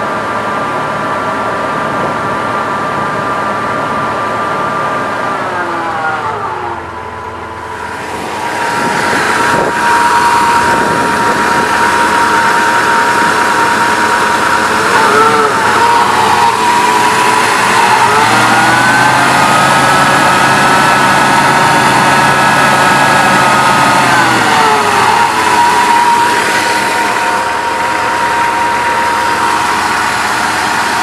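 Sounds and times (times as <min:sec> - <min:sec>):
engine whine rising with revs: 0:00.0 - 0:31.0.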